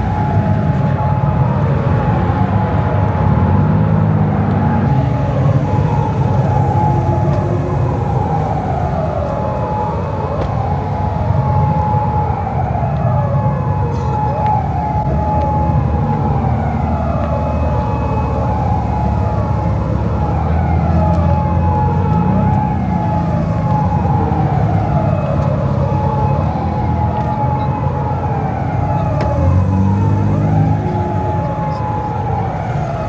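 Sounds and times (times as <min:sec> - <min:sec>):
low vehicle engine rumble: 0:00.0 - 0:33.0
siren wailing: 0:00.0 - 0:33.0.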